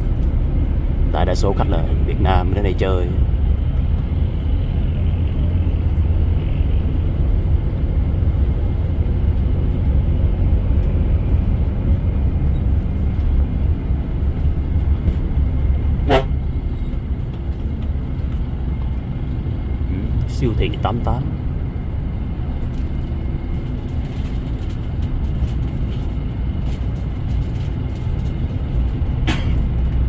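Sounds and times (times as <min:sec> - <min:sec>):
vehicle interior rumble: 0:00.0 - 0:30.0.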